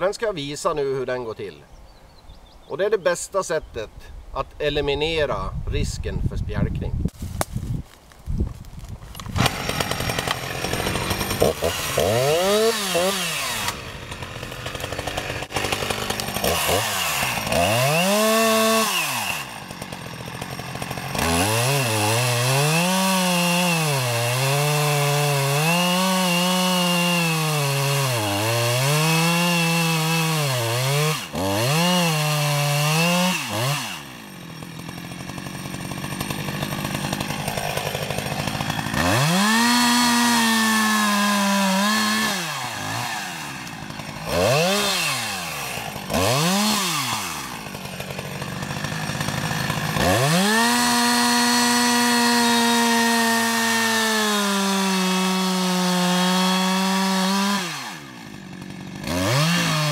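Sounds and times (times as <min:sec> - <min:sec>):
chainsaw cutting tree: 0:07.1 - 0:59.9.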